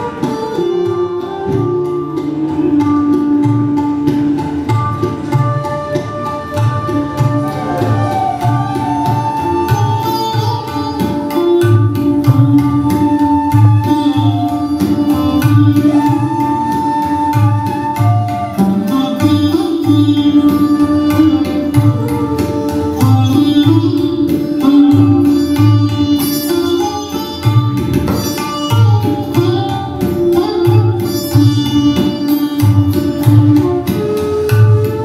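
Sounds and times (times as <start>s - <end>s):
bamboo flute melody: 0.0s - 35.0s
sitar plucking: 0.0s - 35.0s
tabla drum strokes: 0.0s - 35.0s.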